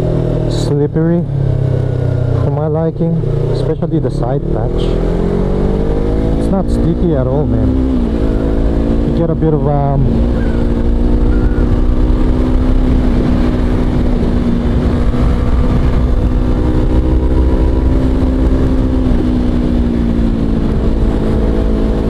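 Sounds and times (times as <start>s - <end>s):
motorcycle engine cruising: 0.0s - 22.0s
wind rumble on microphone: 0.0s - 22.0s.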